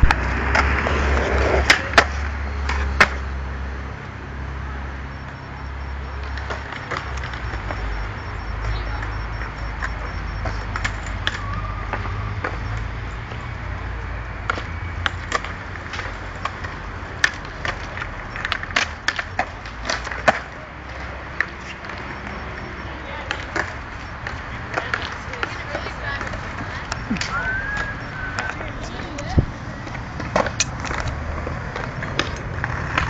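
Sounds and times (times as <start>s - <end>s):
skateboard decks clacking: 0.0s - 3.3s, 6.0s - 13.5s, 14.3s - 33.0s
skateboard wheels rolling on concrete: 0.0s - 33.0s.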